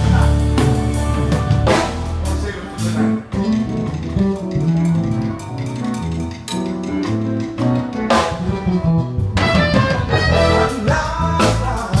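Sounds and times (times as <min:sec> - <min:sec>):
jazz fusion band playing: 0:00.0 - 0:12.0.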